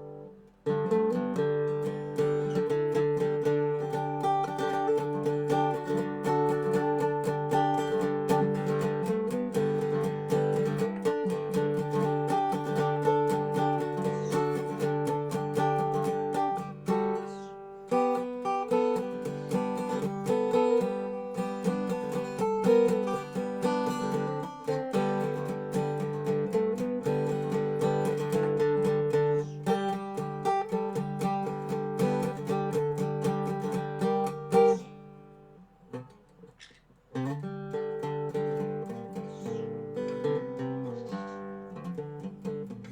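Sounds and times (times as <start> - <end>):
resonator guitar blues picking: 0.0 - 42.9.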